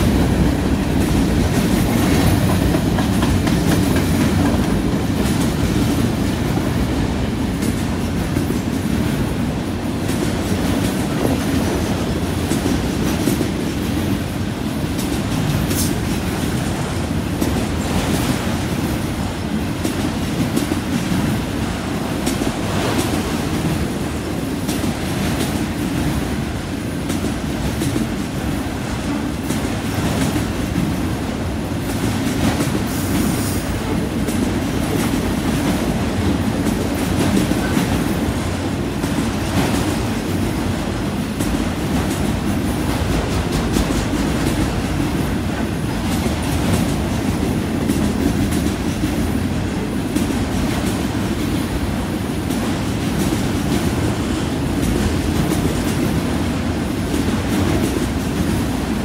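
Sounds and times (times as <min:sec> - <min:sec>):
train wheels rumbling and clacking: 0:00.0 - 0:59.0.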